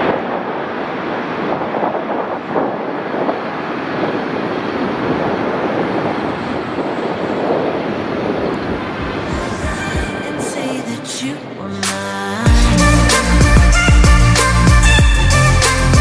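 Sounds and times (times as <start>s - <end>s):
jet airliner roar: 0.0s - 15.8s.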